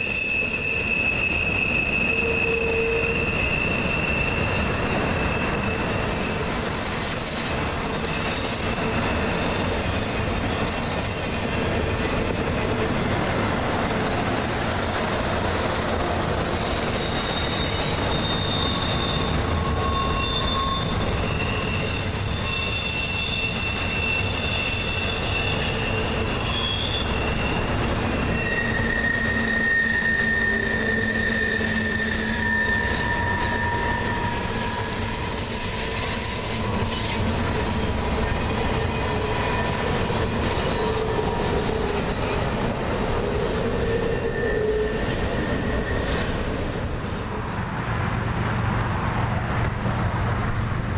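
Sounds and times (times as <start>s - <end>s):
steel wheels squealing on rail: 0.0s - 46.7s
freight train rumbling past: 0.0s - 50.9s.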